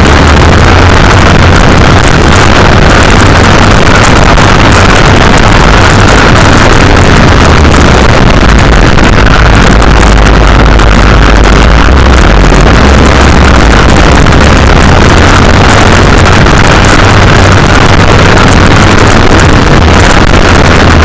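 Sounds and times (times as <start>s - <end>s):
motocross bike engine running: 0.0s - 21.0s.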